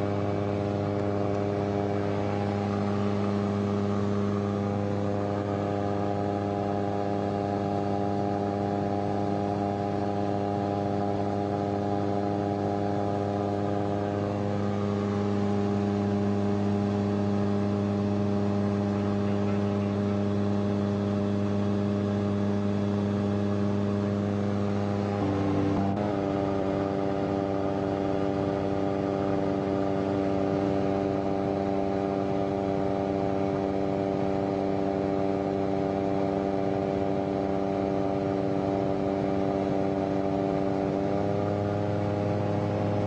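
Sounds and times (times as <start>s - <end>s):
microlight engine and propeller: 0.0s - 43.0s.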